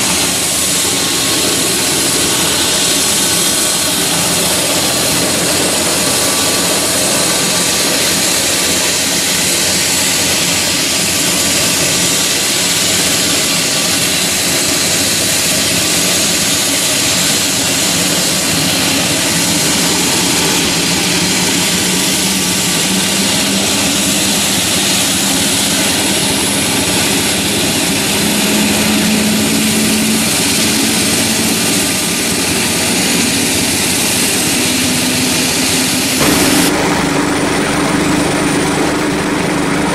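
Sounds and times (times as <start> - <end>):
helicopter rotor rush: 0.0 - 39.9
helicopter turbine whine: 0.0 - 39.9.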